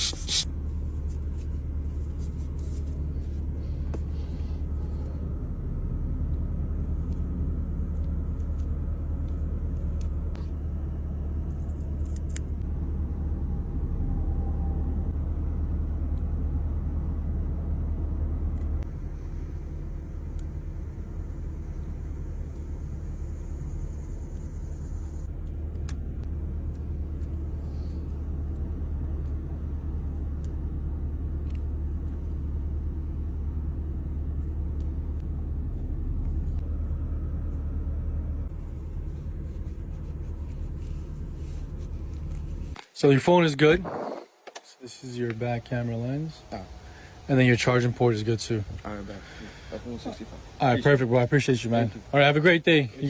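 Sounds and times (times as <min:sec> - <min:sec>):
car engine rumbling inside car: 0:00.0 - 0:53.0.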